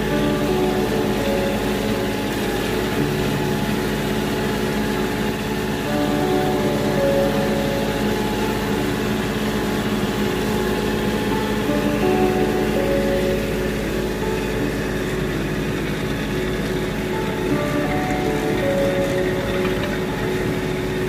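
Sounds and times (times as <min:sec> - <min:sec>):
music playing: 0:00.0 - 0:21.0
tractor engine running: 0:00.0 - 0:21.0.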